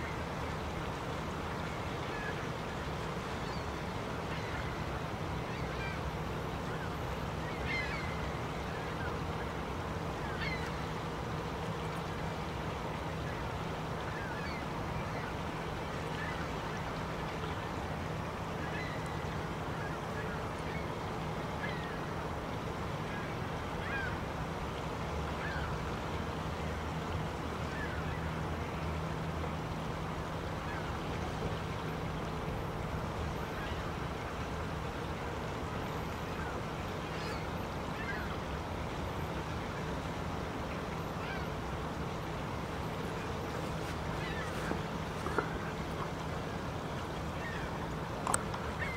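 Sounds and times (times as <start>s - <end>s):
low hum and hiss: 0.0s - 48.9s
geese calling faintly: 1.6s - 11.2s, 13.1s - 22.2s, 23.0s - 24.3s, 25.2s - 26.4s, 30.4s - 48.9s.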